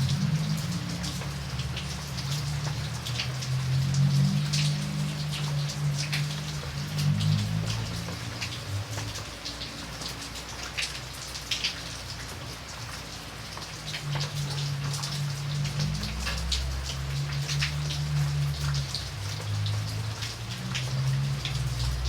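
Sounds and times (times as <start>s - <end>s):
rain drops hitting: 0.0s - 22.0s.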